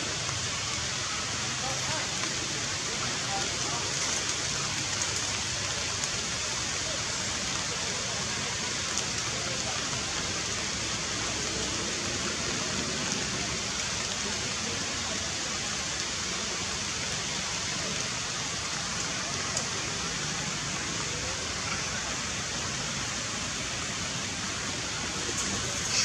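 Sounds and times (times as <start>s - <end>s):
heavy rain on leaves: 0.0s - 26.0s.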